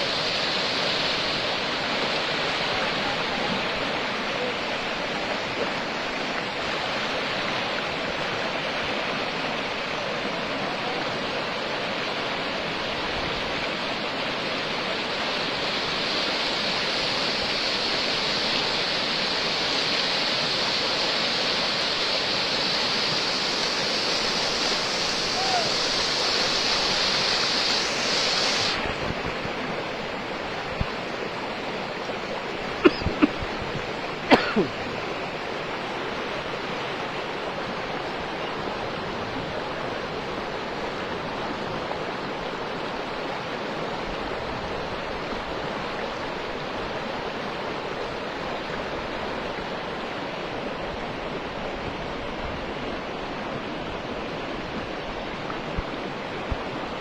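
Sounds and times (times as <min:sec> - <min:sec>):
floodwater rushing: 0:00.0 - 0:50.7.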